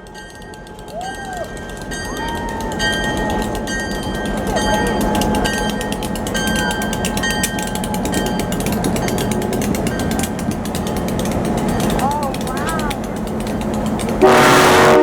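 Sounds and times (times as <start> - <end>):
freight train rolling past: 0.0 - 15.0
wheels clattering on rails: 0.0 - 15.0
wheels squealing: 0.0 - 15.0.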